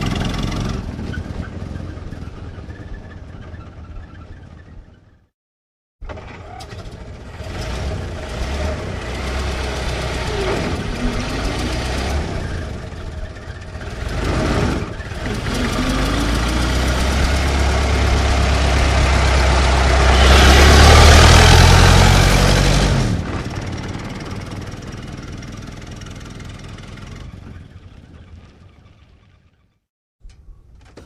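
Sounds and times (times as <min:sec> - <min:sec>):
old car engine running: 0:00.0 - 0:04.6, 0:06.0 - 0:29.3.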